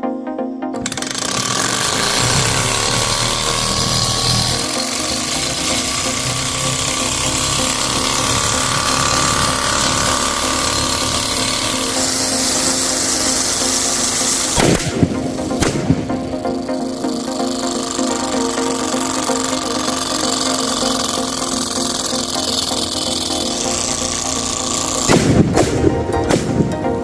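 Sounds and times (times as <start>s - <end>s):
model engine rattling buzz: 0.8s - 26.9s.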